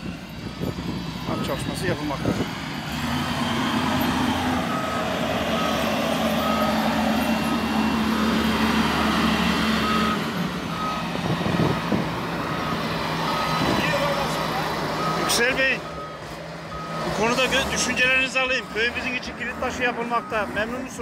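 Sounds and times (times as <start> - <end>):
diesel engine running: 0.0 - 21.0
reversing alarm beeping: 0.1 - 21.0.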